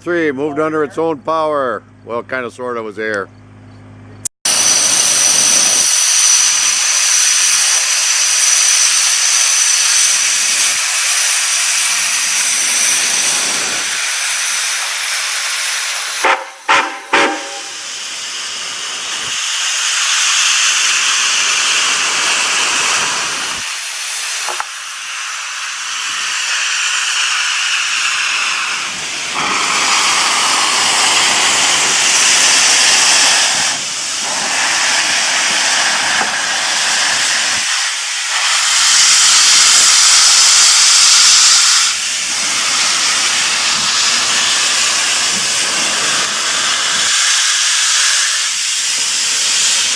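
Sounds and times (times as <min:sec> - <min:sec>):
steam locomotive hissing: 0:04.5 - 0:49.9.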